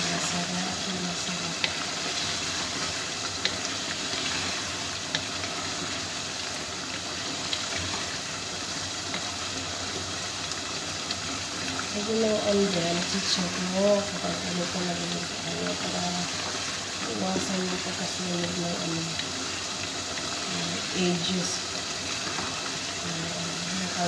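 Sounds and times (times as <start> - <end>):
chicken sizzling in a pot: 0.0 - 24.0.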